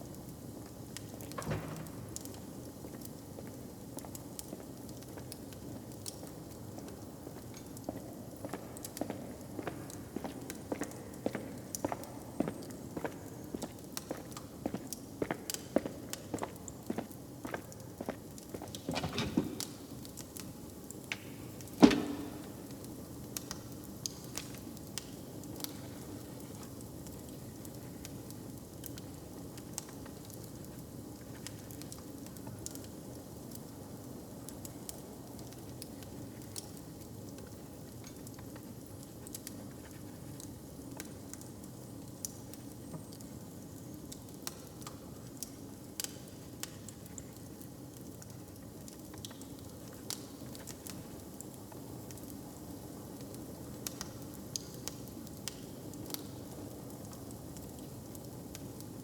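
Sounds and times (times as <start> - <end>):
log fire crackling: 0.0 - 59.0.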